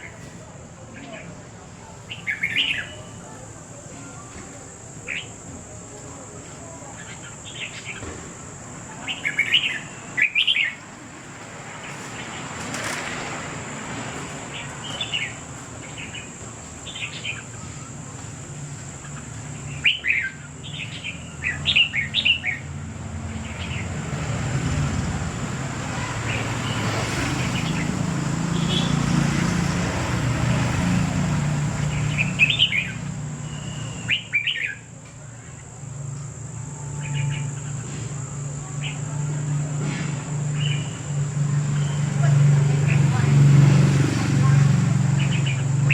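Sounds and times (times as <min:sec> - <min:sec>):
small birds chirping: 0:00.0 - 0:05.5, 0:06.5 - 0:11.0, 0:14.3 - 0:25.0, 0:25.9 - 0:35.8, 0:36.8 - 0:45.9.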